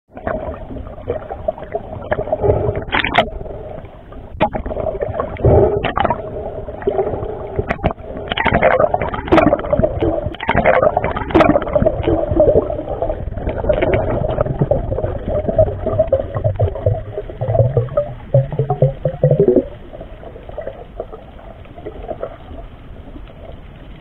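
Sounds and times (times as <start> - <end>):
underwater gurgling and bubbling: 0.1 - 24.0.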